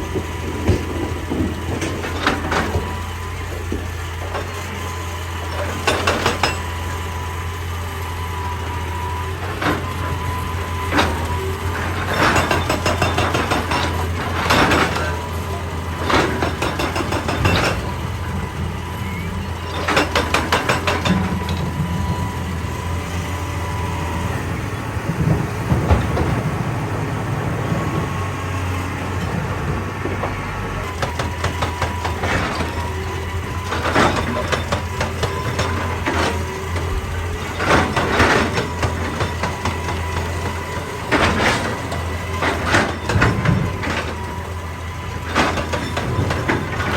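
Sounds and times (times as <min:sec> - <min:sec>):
diesel engine under load: 0:00.0 - 0:46.9
hydraulic breaker pounding rock: 0:00.0 - 0:46.9.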